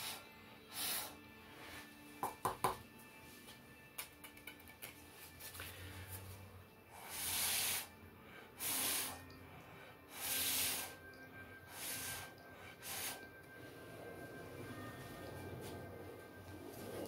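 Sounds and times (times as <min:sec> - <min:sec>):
heavy hissing breaths: 0:00.0 - 0:02.2, 0:05.5 - 0:17.0.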